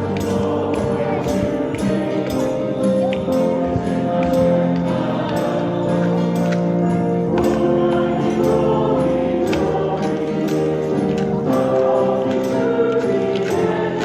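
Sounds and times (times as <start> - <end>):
group of voices singing: 0.0 - 14.0
instrumental accompaniment: 0.0 - 14.0
steady percussion beat: 0.0 - 14.0.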